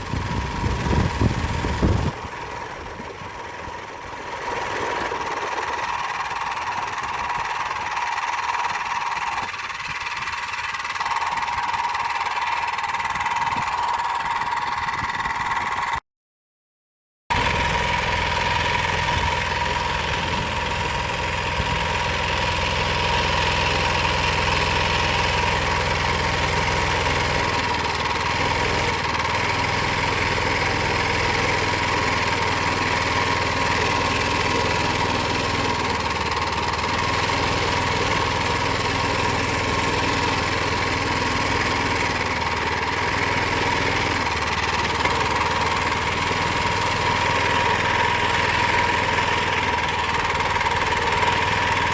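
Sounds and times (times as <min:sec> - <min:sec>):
mini bike engine running: 0:00.0 - 0:16.0, 0:17.3 - 0:51.9.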